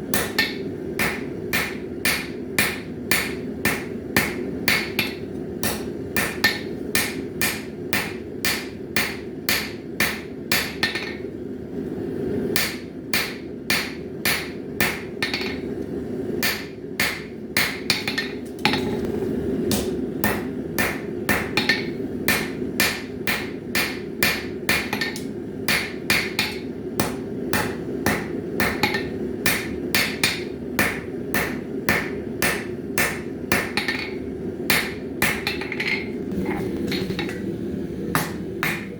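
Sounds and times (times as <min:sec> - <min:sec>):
hammer striking steel on anvil: 0:00.1 - 0:11.3, 0:12.6 - 0:15.7, 0:16.4 - 0:19.1, 0:19.7 - 0:36.1, 0:38.1 - 0:38.9.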